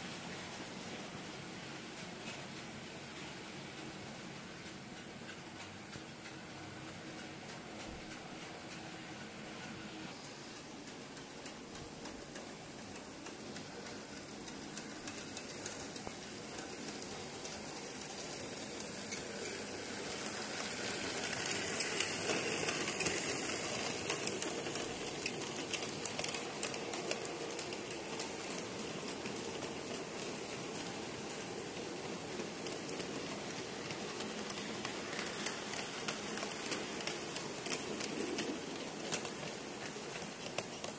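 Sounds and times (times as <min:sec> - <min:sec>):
model train clattering on track: 0:00.1 - 0:40.9.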